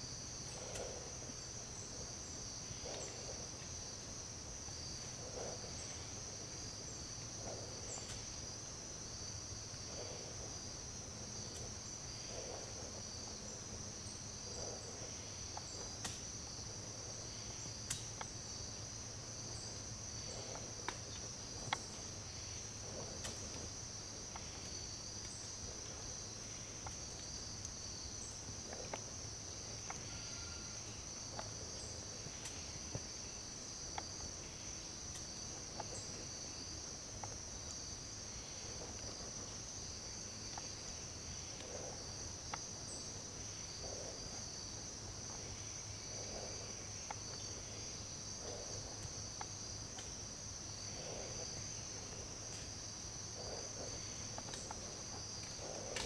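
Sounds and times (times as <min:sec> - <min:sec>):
insect chorus trilling: 0:00.0 - 0:56.0.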